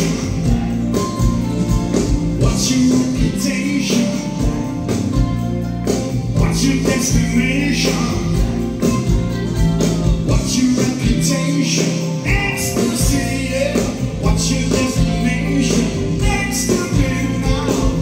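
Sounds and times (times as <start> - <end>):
man singing lead vocal: 0.0 - 1.4, 2.4 - 4.7, 6.4 - 9.0, 9.6 - 18.0
live pop band playing: 0.0 - 18.0.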